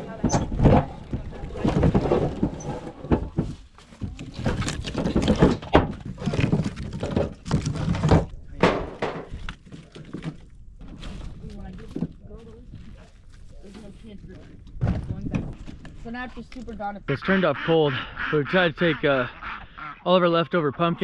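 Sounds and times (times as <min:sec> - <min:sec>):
firewood thunking and clattering: 0:00.0 - 0:16.8.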